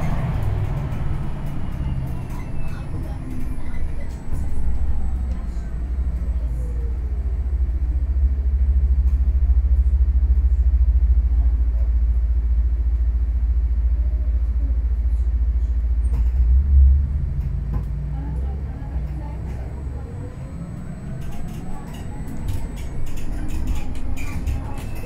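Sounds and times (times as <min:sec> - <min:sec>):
bus cabin rumble: 0:00.0 - 0:25.0.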